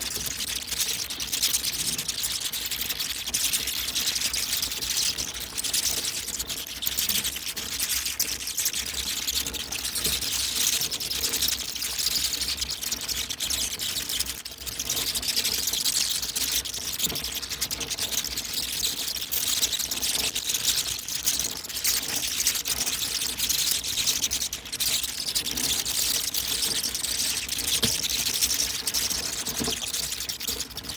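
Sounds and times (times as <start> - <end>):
bats high-pitched crackle: 0.0 - 30.9.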